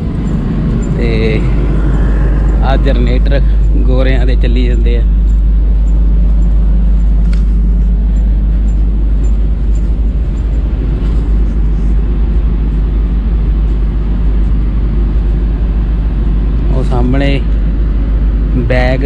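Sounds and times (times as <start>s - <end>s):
generator engine humming: 0.0s - 19.0s.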